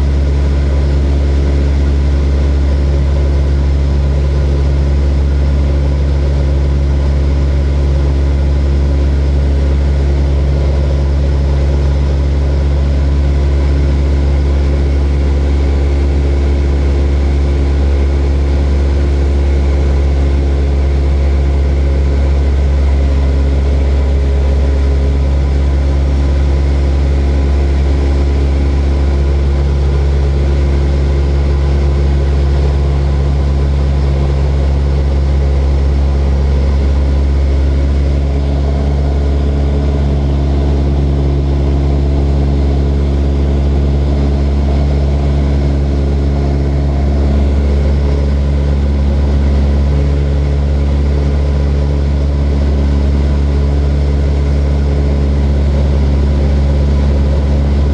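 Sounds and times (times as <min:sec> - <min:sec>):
propeller aircraft engine drone: 0:00.0 - 0:57.9.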